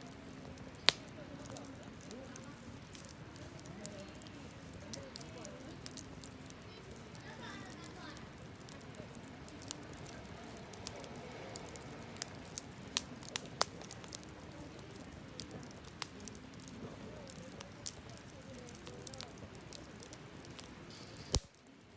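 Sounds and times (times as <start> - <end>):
campfire crackling and popping: 0.0 - 21.9
low steady hiss: 0.0 - 21.9.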